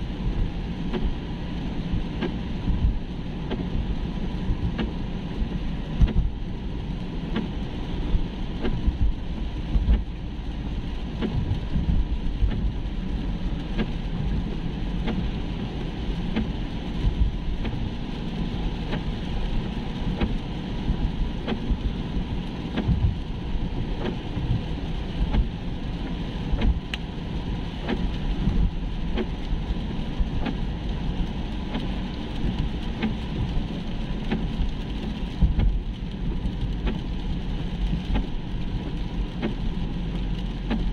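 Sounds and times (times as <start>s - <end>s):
engine and tyres on wet road: 0.0s - 40.9s
raindrops ticking on windscreen: 0.0s - 40.9s.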